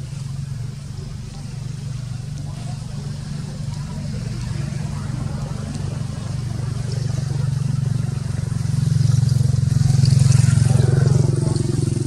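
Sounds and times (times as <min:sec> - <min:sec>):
vehicle engine pulsing drone: 0:00.0 - 0:12.0.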